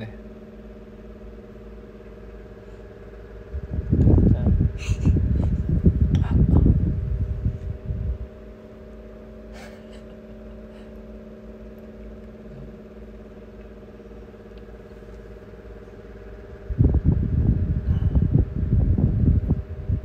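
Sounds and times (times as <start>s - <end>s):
irregular low rumbling: 0.0s - 20.0s
steady machine hum: 0.0s - 20.0s.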